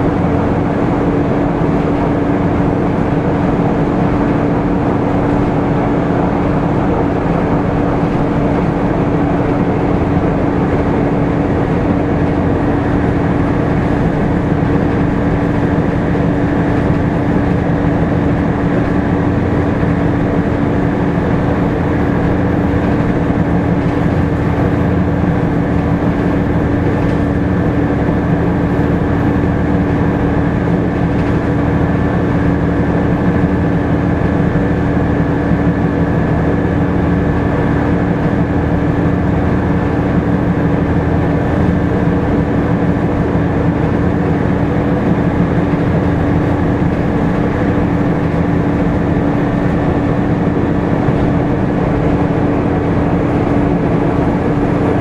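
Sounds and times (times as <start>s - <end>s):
bus diesel engine drone: 0.0s - 55.0s
constant hum: 0.0s - 55.0s
loud cooling fan: 0.0s - 55.0s.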